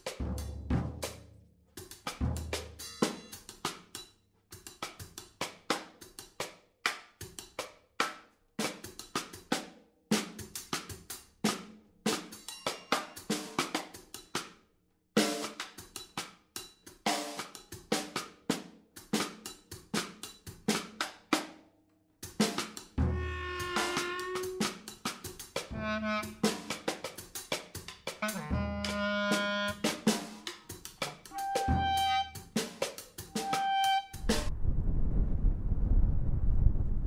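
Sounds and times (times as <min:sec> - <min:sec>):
drum and cymbal hits: 0:00.0 - 0:06.5, 0:08.6 - 0:14.5, 0:15.2 - 0:21.5, 0:22.2 - 0:34.5.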